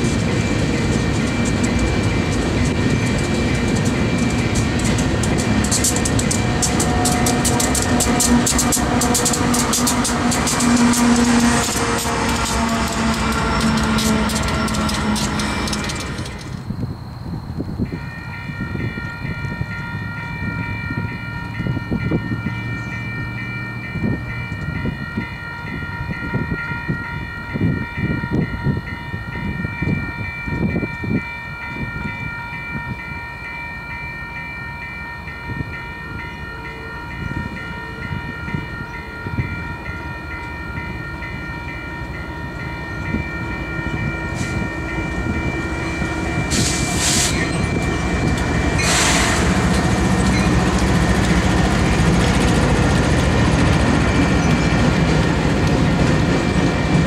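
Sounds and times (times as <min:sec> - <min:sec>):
crossing warning bells ringing: 0:00.0 - 0:57.0
freight train rumble: 0:00.0 - 0:57.0.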